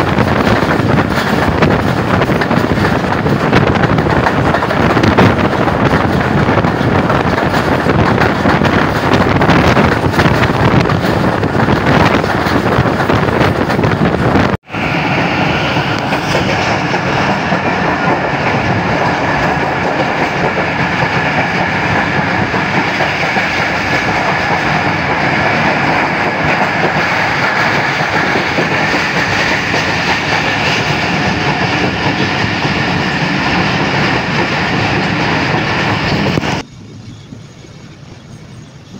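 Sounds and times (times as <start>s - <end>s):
train wheels clattering: 0.0s - 36.6s
train coach rumbling: 0.0s - 38.9s.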